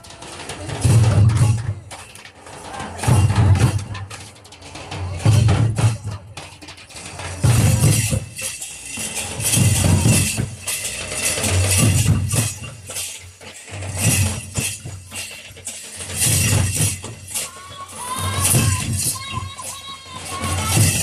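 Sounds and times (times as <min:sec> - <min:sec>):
kettle drum and barrel drum beating: 0:00.0 - 0:21.0.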